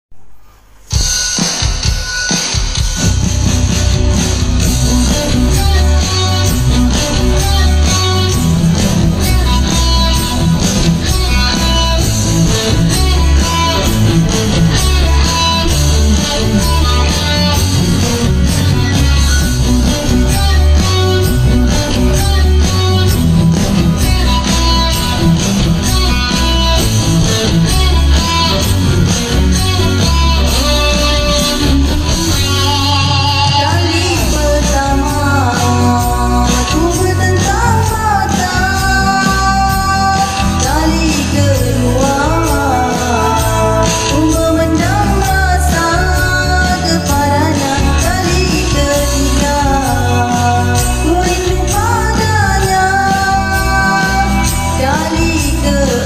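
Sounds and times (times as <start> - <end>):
guitar-led pop music: 0.8 - 56.0
repeating bass line: 3.0 - 56.0.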